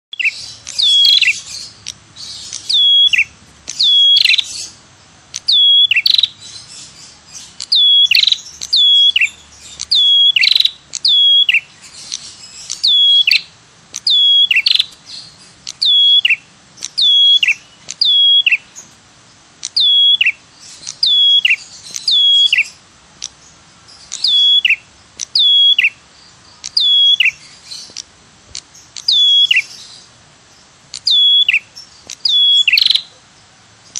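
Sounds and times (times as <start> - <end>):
bird calling: 0.1 - 33.9.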